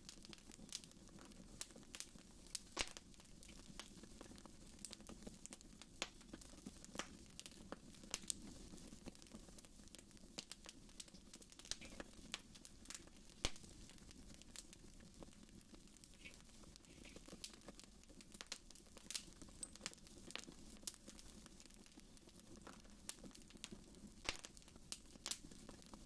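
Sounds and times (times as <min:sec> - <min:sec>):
soft steady hiss: 0:00.0 - 0:26.0
wood fire crackling and popping: 0:00.0 - 0:26.0.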